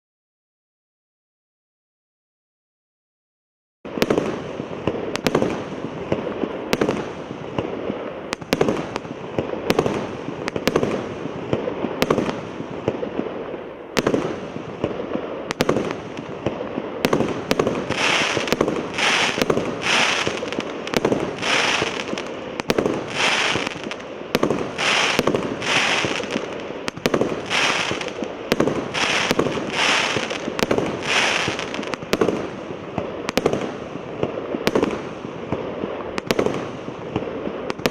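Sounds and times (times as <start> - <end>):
fireworks crackling: 3.9 - 37.9
fireworks shots: 3.9 - 37.9
hissing crackling bursts: 4.3 - 37.9.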